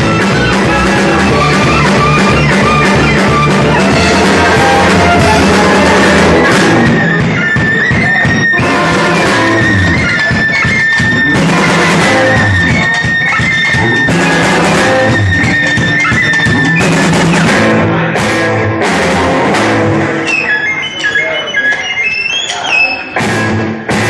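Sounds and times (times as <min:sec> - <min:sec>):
band music with guitar and drums: 0:00.0 - 0:24.0.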